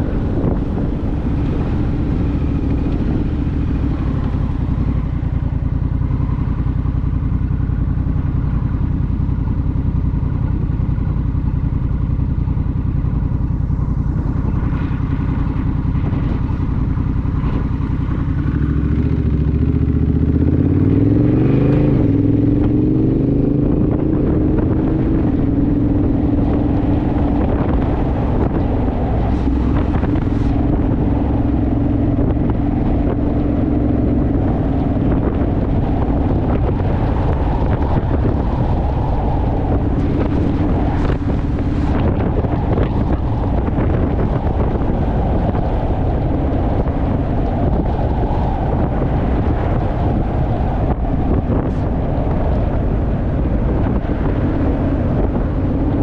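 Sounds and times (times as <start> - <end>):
motorcycle engine cruising: 0.0 - 56.0
wind on microphone: 0.0 - 56.0.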